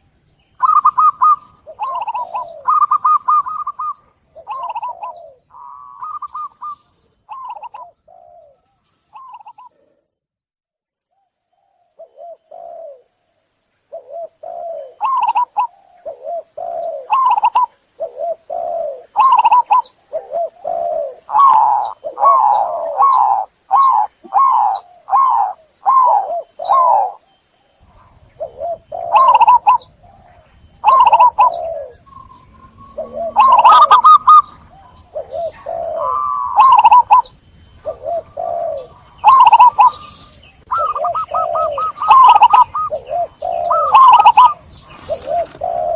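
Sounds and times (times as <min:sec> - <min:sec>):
dove cooing: 0:00.0 - 0:10.1, 0:11.6 - 0:13.2, 0:13.9 - 0:45.9.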